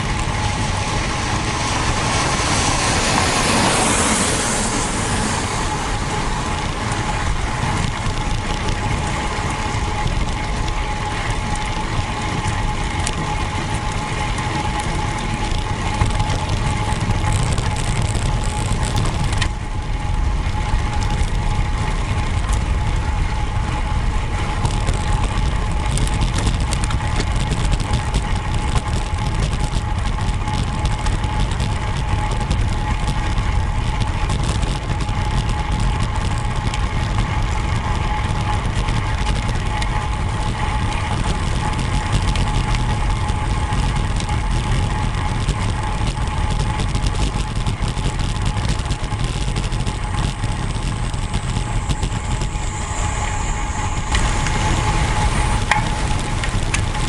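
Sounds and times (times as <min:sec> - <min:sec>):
faint steady whine: 0:00.0 - 0:57.0
wind rumble and road noise: 0:00.0 - 0:57.0.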